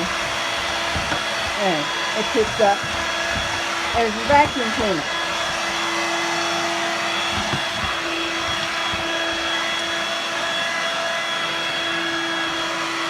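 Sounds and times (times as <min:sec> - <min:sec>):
vacuum motor whine: 0:00.0 - 0:13.0.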